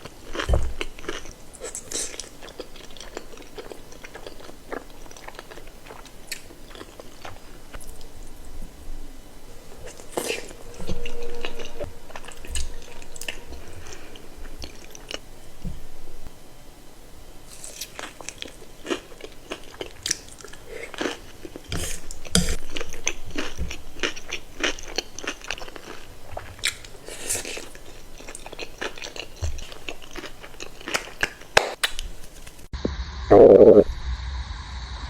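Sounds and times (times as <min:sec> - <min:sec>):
crunchy chewing of fried chicken: 0:00.0 - 0:08.6, 0:09.3 - 0:15.7, 0:17.4 - 0:32.7.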